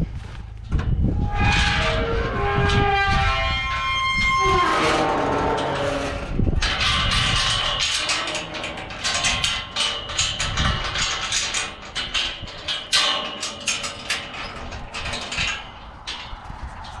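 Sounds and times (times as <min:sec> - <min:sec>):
metal tubing clattering: 0:00.7 - 0:17.0.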